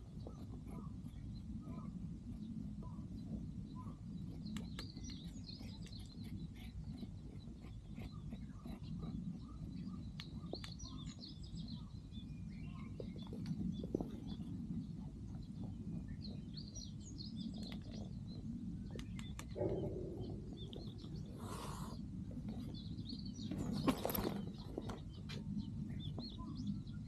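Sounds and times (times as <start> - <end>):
faint bird chirps: 0.0 - 27.0
steady low rumble: 0.0 - 27.0.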